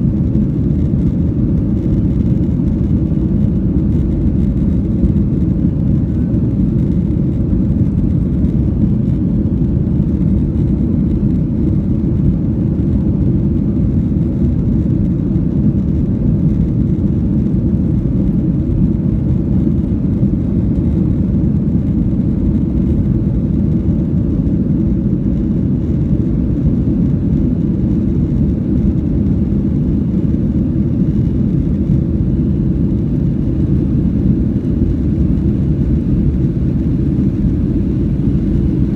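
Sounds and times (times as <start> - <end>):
airliner engine rumble: 0.0 - 38.9.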